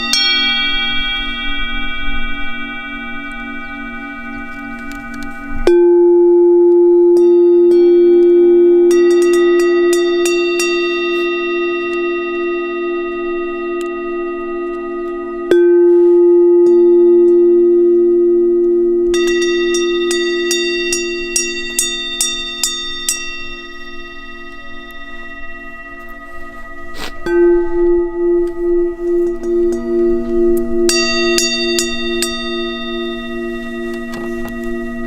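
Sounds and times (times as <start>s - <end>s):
high bright chime: 0.0s - 35.0s
singing bowl ringing: 0.0s - 35.0s.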